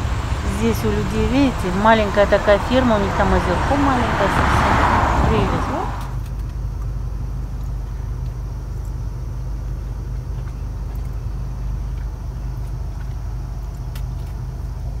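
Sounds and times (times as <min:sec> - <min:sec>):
car engine rumble: 0:00.0 - 0:15.0
tyres on road: 0:00.0 - 0:15.0.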